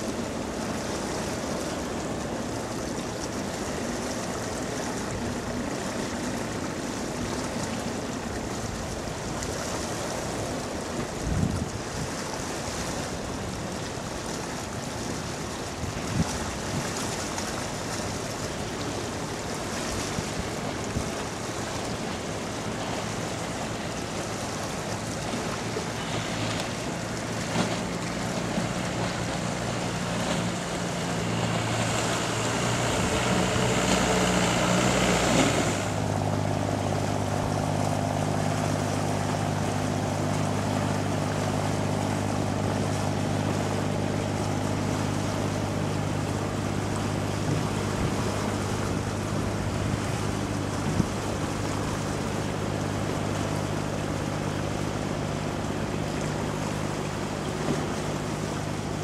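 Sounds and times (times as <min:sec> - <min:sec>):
boat engine passing: 0:00.0 - 0:59.0
bow wash rushing: 0:00.0 - 0:59.0
low vessel engine drone: 0:00.0 - 0:59.0.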